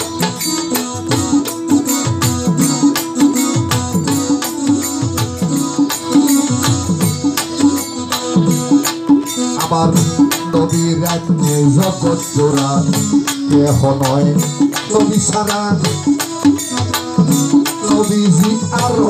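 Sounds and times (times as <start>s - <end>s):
electronic keyboard melody: 0.0s - 19.0s
rattling percussion beat: 0.0s - 19.0s.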